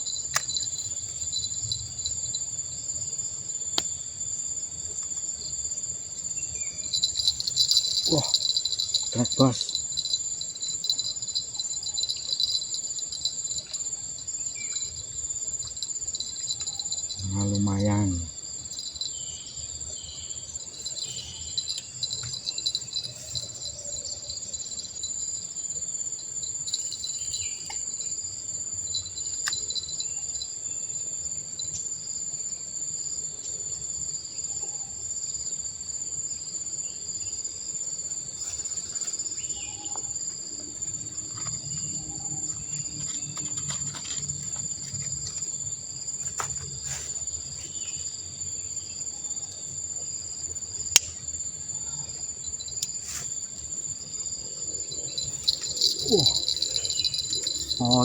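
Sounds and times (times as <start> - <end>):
shrill insect chorus: 0.0 - 58.0.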